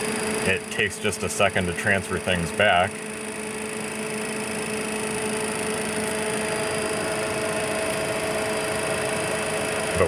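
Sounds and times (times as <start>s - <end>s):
higher whine: 0.0s - 10.0s
steady whine: 0.0s - 10.0s.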